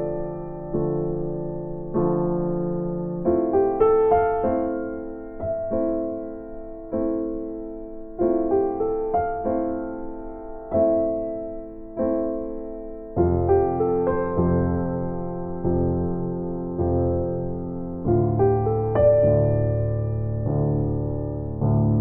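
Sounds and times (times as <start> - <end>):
slow gentle piano chords: 0.0 - 22.0.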